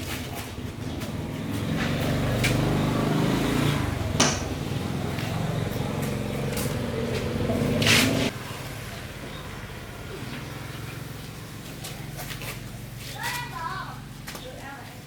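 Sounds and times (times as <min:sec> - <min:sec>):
vehicle engine running: 0:00.0 - 0:14.4.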